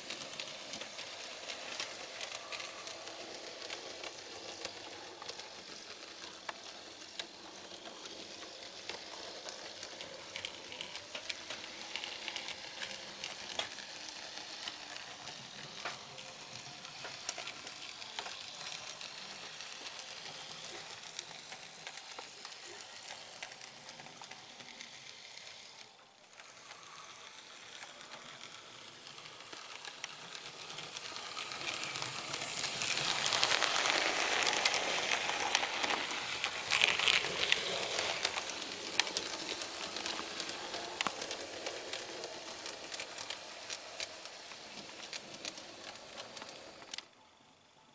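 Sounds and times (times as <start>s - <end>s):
wheels clicking over rail joints: 0.0s - 47.2s
model train running: 0.0s - 47.9s.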